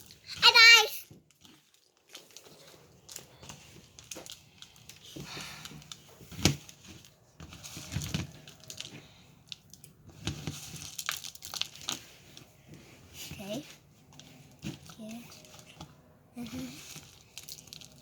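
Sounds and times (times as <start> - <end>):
birdseed rustling in a bowl: 1.3 - 9.3, 10.1 - 15.7, 16.4 - 18.0.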